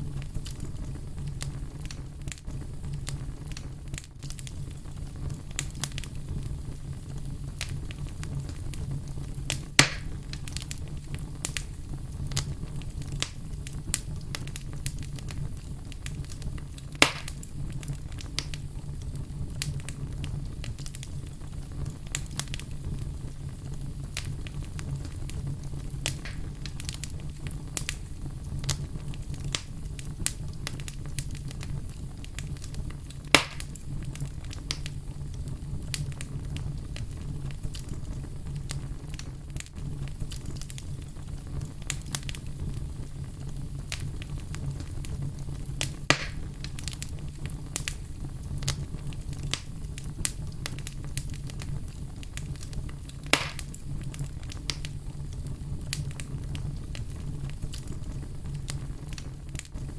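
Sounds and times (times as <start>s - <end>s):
fire crackling: 0.0s - 59.9s
loud fire pops: 0.0s - 59.9s.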